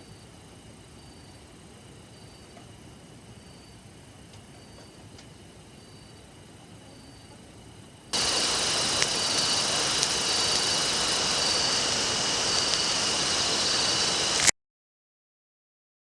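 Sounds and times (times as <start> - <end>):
loud steady hiss: 0.0 - 14.5.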